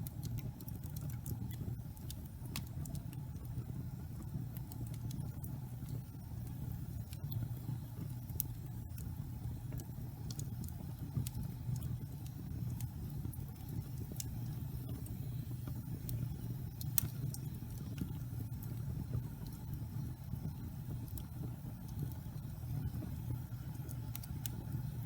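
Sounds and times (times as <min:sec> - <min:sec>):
log fire crackling and popping: 0:00.0 - 0:25.0.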